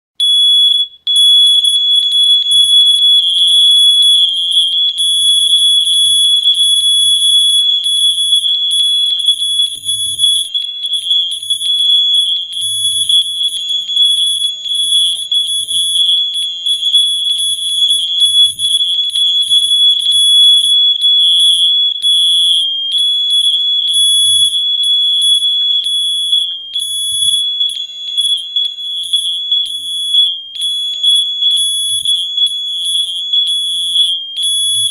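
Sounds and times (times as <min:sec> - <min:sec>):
smoke alarms beeping: 0:00.2 - 0:34.9.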